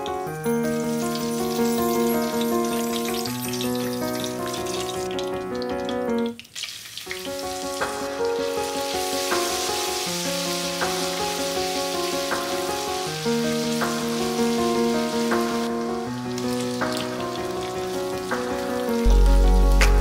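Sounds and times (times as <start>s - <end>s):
background music with held notes: 0.0s - 6.4s, 7.1s - 20.0s
oil sizzling in a pot: 0.7s - 19.8s.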